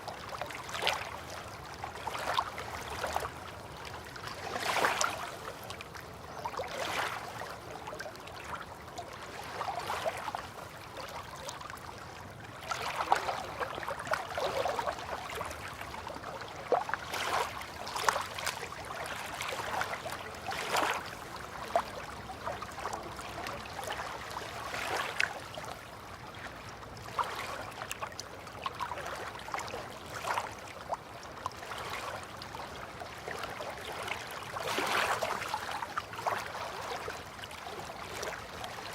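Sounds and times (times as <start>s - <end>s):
river water lapping: 0.0s - 38.9s.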